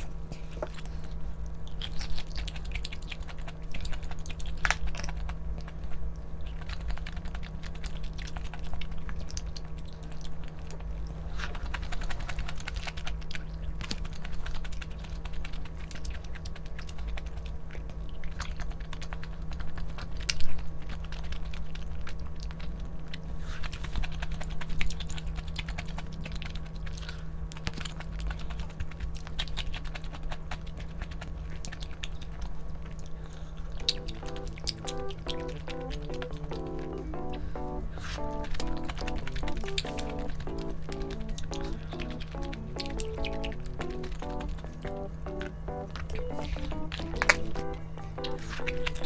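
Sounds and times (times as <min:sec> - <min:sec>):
chewing with crackles: 0:00.0 - 0:49.0
steady low hum: 0:00.0 - 0:49.0.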